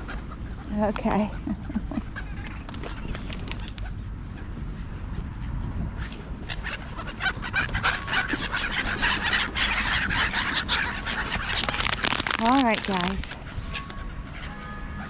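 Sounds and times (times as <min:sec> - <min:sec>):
gulls calling: 0:00.0 - 0:15.0
low rumble: 0:00.0 - 0:15.0.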